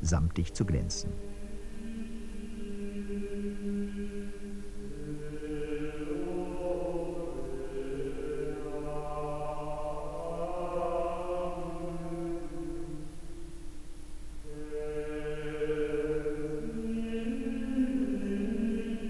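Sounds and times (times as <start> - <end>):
slow chant-like music: 0.0 - 19.0.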